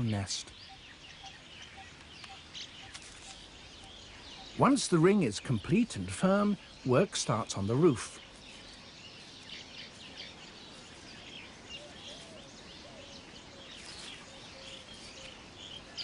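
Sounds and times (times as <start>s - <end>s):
birds chattering: 0.0s - 16.0s.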